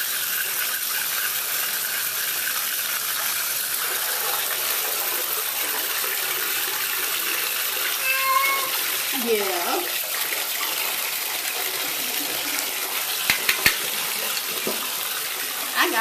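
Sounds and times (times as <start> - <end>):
bath tap running into tub: 0.0 - 16.0.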